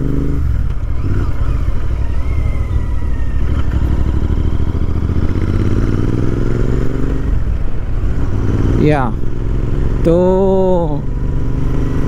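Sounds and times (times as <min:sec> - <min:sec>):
motorcycle engine riding: 0:00.0 - 0:12.0.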